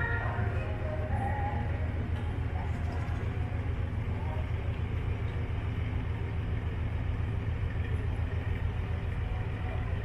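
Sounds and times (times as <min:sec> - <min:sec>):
ship engine rumbling: 0:00.0 - 0:10.0.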